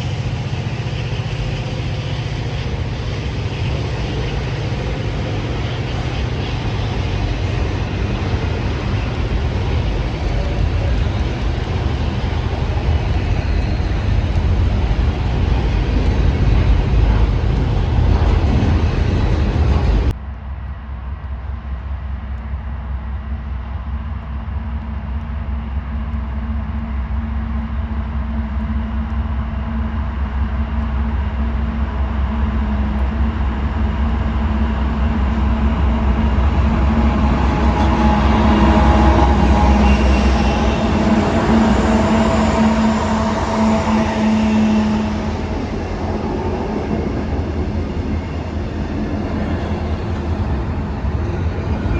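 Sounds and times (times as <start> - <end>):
diesel train rumbling: 0.0 - 51.9
low engine drone: 0.0 - 51.9.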